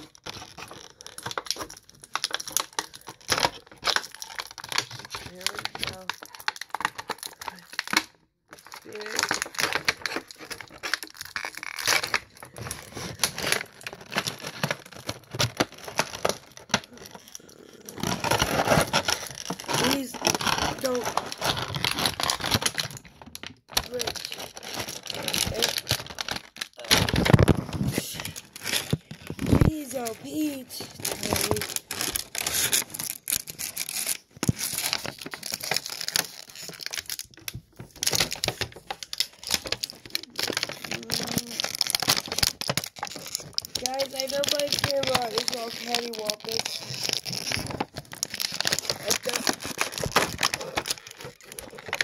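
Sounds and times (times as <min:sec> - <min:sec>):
plastic packaging crinkling: 0:00.0 - 0:52.0.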